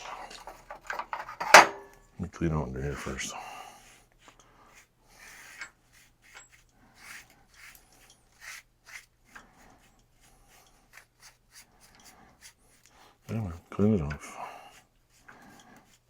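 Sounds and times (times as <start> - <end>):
hand brush sweeping: 2.9 - 16.0.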